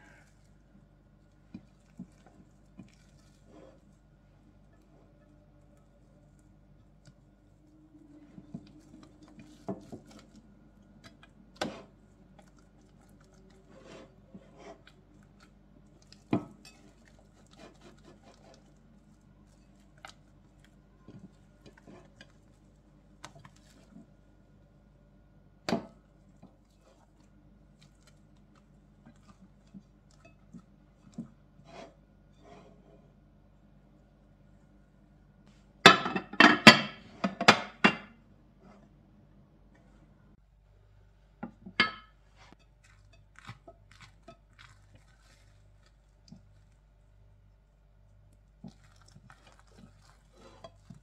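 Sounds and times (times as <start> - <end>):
hands handling dough: 0.0 - 39.0, 41.0 - 51.0.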